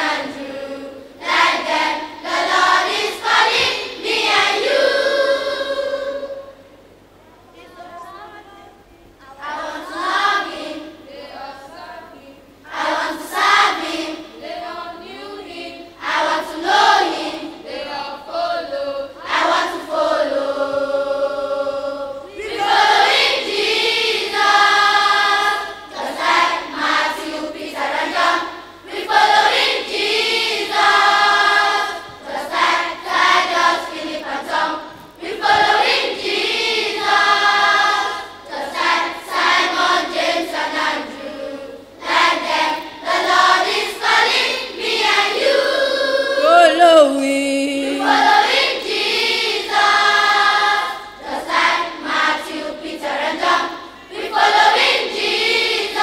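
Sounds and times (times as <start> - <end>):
children's choir singing: 0.0 - 8.6, 9.3 - 56.0.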